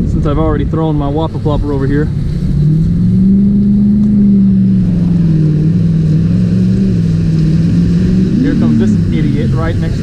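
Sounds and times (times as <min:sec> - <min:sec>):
car engine running hard: 0:00.0 - 0:10.0
churned water rumbling: 0:00.0 - 0:10.0.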